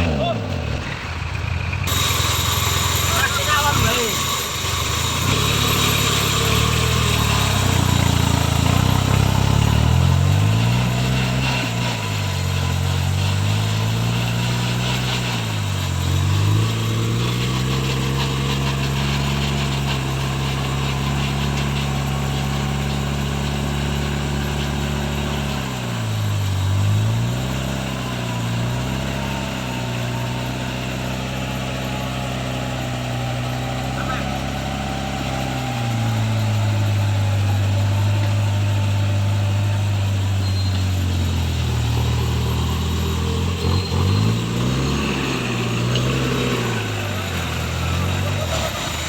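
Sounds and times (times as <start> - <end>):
vehicle engine under load: 0.0 - 49.0.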